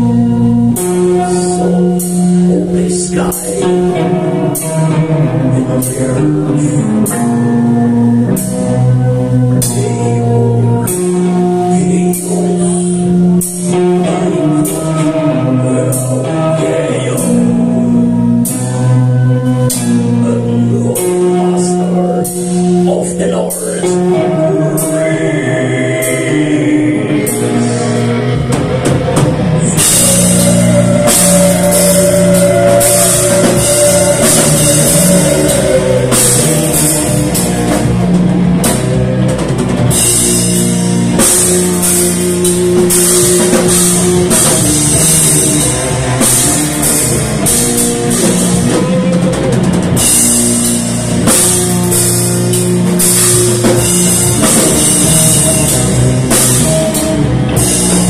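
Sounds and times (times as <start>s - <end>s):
drums and cymbals: 0.0s - 10.2s, 10.8s - 58.0s
bass guitar: 0.0s - 58.0s
distorted guitars: 0.0s - 58.0s.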